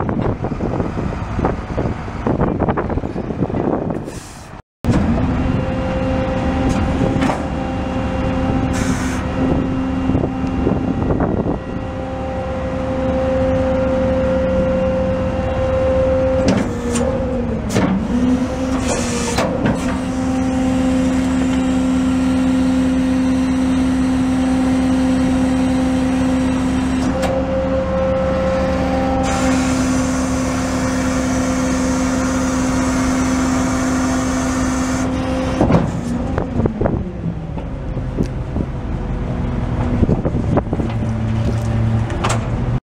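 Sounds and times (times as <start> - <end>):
diesel truck hydraulics drone: 0.1 - 42.8.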